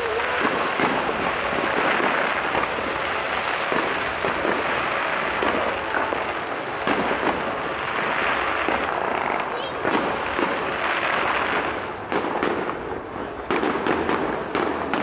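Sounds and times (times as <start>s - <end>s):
firework hiss: 0.0s - 15.0s
rapid firework bangs: 0.0s - 15.0s
sharp firework bangs: 0.0s - 15.0s.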